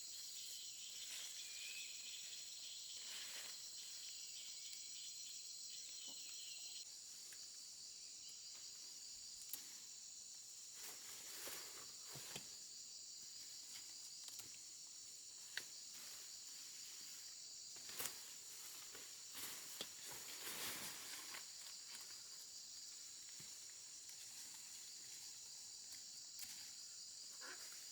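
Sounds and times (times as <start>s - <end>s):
insects chirping: 0.0s - 27.9s.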